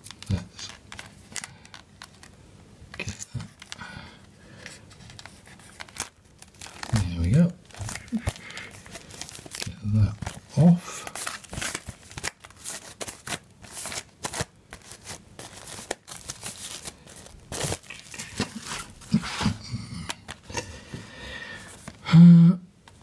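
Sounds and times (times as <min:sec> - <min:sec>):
plastic wrap crinkling: 0:00.0 - 0:03.8, 0:04.6 - 0:20.6.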